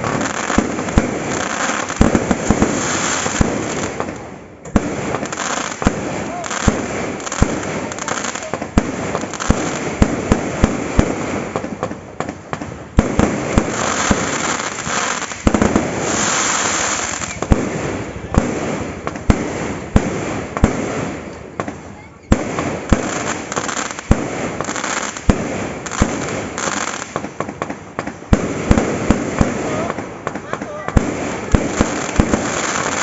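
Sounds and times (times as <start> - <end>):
fireworks bangs: 0.0 - 33.0
fireworks crackling and hiss: 0.0 - 33.0.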